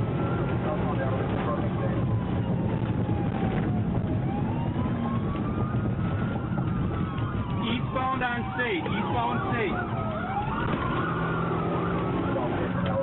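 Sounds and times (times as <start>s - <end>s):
car engine and road noise: 0.0s - 13.0s
police siren wailing: 0.0s - 13.0s.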